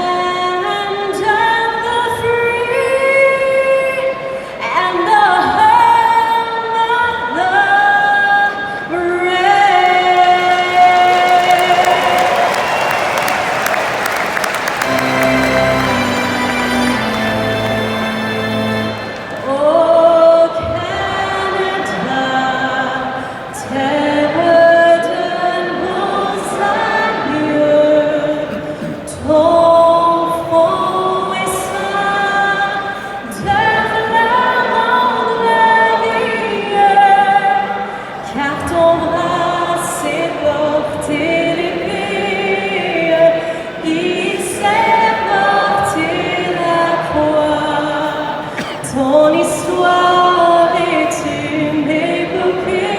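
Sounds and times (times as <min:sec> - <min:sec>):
choir singing: 0:09.0 - 0:52.9.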